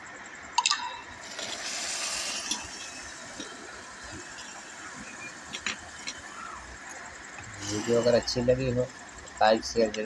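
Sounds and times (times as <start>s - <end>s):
steady background hum: 0.0s - 10.0s
hissing rush from pot: 1.1s - 9.6s.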